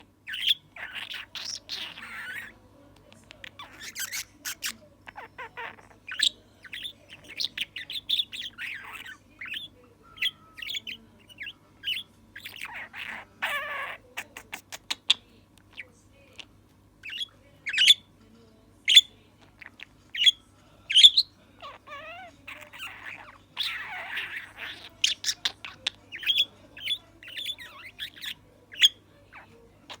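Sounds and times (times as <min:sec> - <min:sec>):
budgerigar chirping and chattering: 0:00.0 - 0:02.6, 0:03.3 - 0:18.2, 0:18.8 - 0:30.0.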